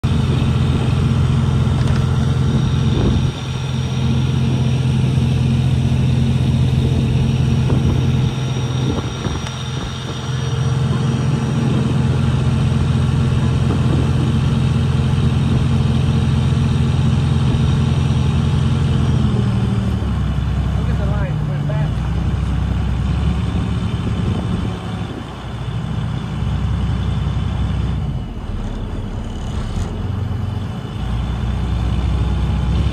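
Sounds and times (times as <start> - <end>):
ferry engine drone: 0.0 - 32.9.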